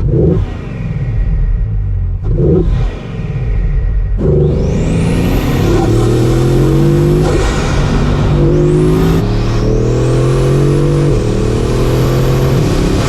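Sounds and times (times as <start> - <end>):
car engine accelerating hard: 2.1 - 13.0.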